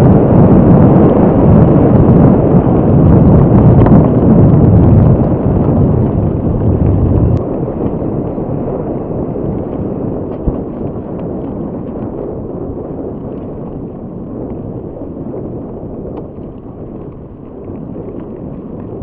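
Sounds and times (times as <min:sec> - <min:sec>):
bike tyres rolling over gravel: 0:00.0 - 0:19.0
gravel and bike rattles: 0:00.0 - 0:19.0
wind buffeting microphone: 0:00.0 - 0:19.0.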